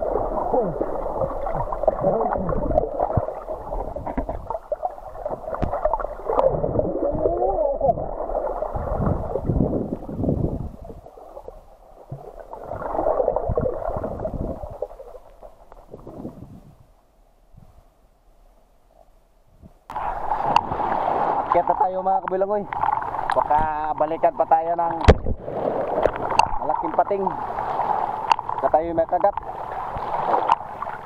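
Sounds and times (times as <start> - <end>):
underwater sloshing and gurgling: 0.0 - 18.0, 18.9 - 31.0.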